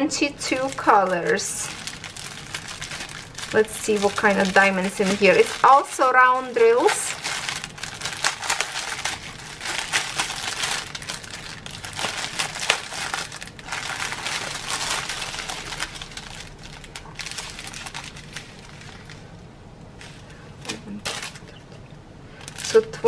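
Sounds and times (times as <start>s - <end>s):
plastic bag crinkling: 0.1s - 21.8s, 22.4s - 23.0s.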